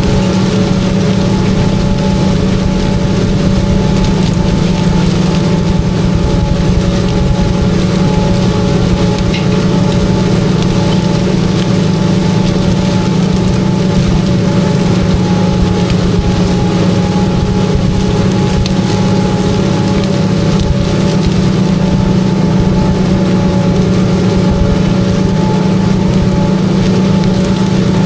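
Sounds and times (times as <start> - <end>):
steady hiss: 0.0 - 28.0
tractor engine hum: 0.0 - 28.0.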